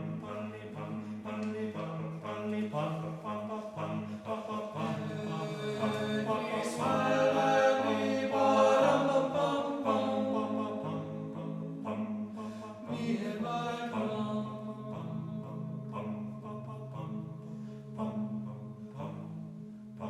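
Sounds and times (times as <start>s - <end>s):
choir singing sustained chant: 0.0s - 20.0s.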